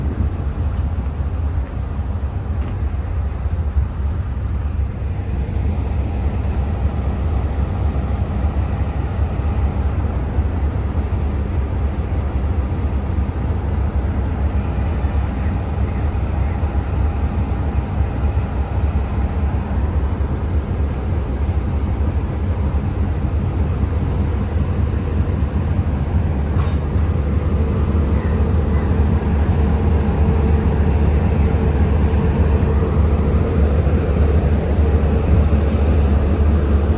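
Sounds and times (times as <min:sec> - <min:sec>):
diesel locomotive rumbling: 0:00.0 - 0:36.9.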